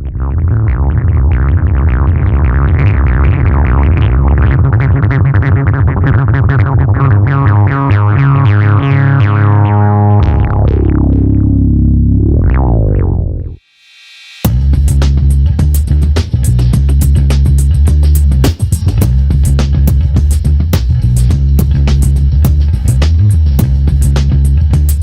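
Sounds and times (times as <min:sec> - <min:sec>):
synthesizer music with heavy bass: 0:00.0 - 0:13.6, 0:14.4 - 0:25.0.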